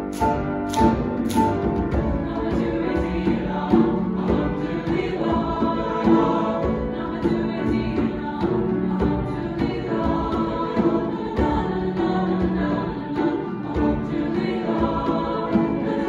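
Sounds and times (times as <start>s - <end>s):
choir singing in harmony: 0.0s - 16.0s
djembe drum beat: 0.2s - 16.0s.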